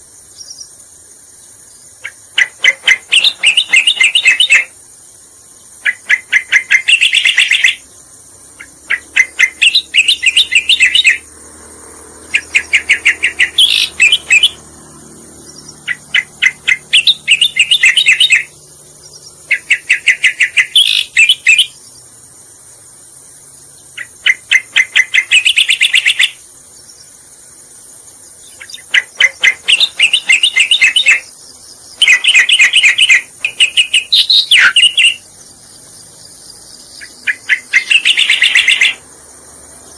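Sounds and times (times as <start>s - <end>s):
bird chirping song: 0.0s - 39.9s
high insect-like hiss: 0.0s - 39.9s.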